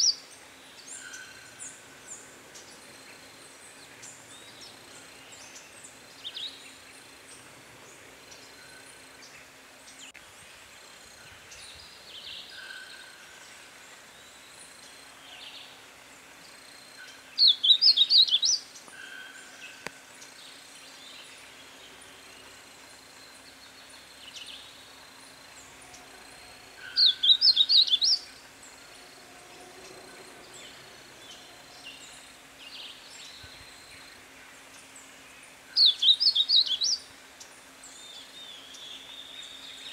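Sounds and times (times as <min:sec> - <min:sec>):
bird song phrases: 0:00.0 - 0:10.2, 0:16.5 - 0:39.9.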